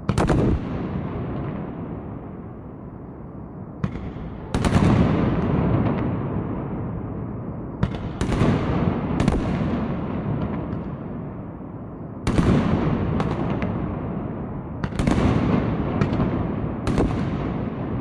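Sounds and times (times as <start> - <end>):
fireworks bangs with rumble: 0.0 - 2.3, 3.8 - 7.1, 7.8 - 11.5, 12.2 - 18.0.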